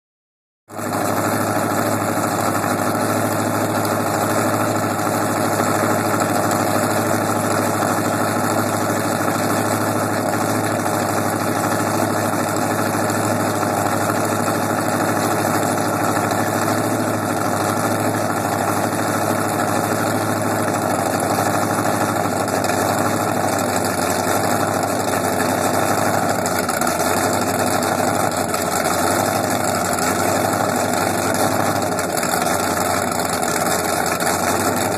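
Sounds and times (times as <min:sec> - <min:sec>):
boat engines idling: 0:00.8 - 0:34.9.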